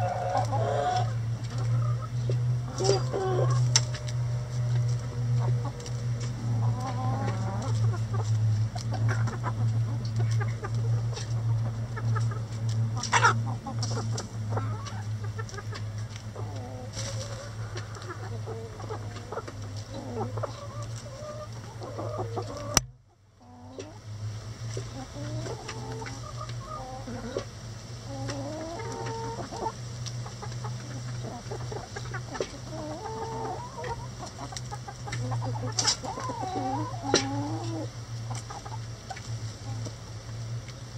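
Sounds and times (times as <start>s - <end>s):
hens clucking: 0.0s - 40.8s
steady low hum: 0.0s - 40.9s.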